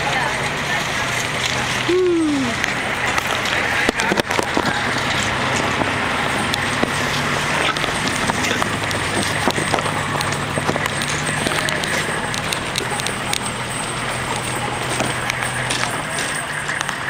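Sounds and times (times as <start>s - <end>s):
low vehicle hum: 0.0s - 17.0s
knocks and rattles of rig: 2.6s - 17.0s.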